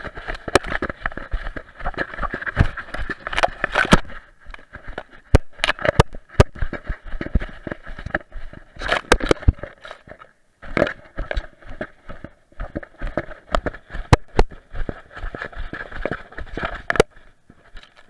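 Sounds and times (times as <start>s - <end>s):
grass rustling against camera: 0.0s - 18.0s.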